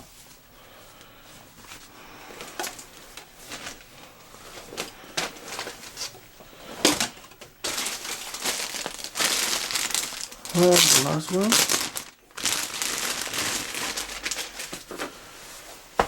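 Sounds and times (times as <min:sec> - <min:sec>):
packaging crinkling and rustling: 0:02.4 - 0:15.3.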